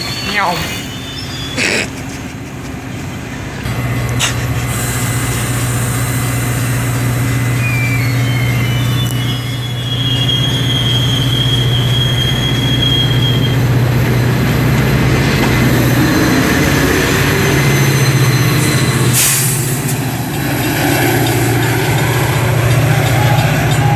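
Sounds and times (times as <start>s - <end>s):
high wheel squeal: 0.0s - 13.9s, 15.1s - 23.9s
diesel locomotive passing: 0.0s - 23.9s
train wheels rolling on rail: 0.0s - 23.9s.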